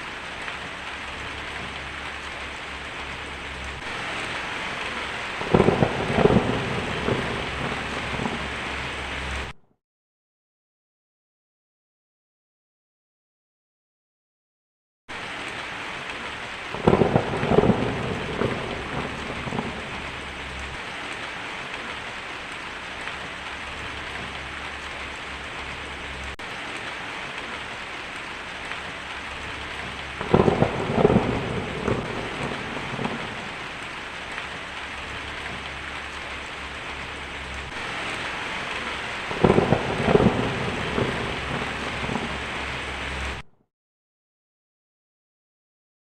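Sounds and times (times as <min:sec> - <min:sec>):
heavy rain on a tin roof: 0:00.0 - 0:09.6, 0:15.1 - 0:43.5
thunder rumbling: 0:00.0 - 0:09.6, 0:15.2 - 0:43.4.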